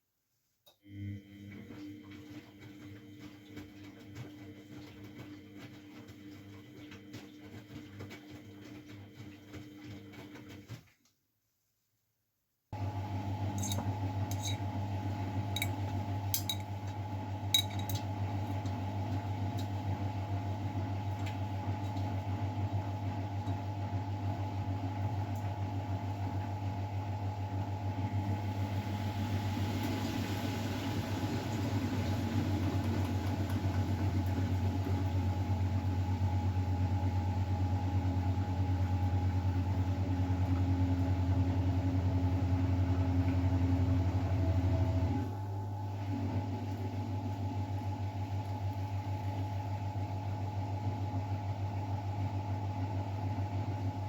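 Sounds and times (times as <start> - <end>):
washing machine motor hum: 0.8 - 11.0, 12.8 - 54.0.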